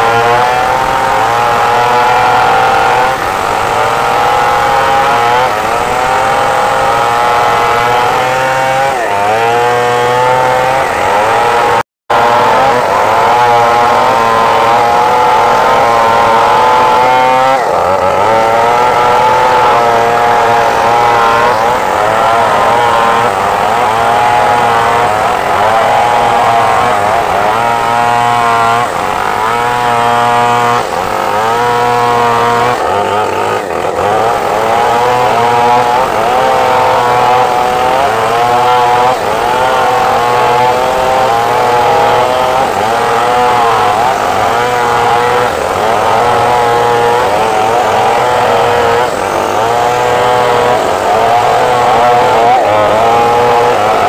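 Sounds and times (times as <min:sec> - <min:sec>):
chainsaw cutting a log: 0:00.0 - 0:54.0.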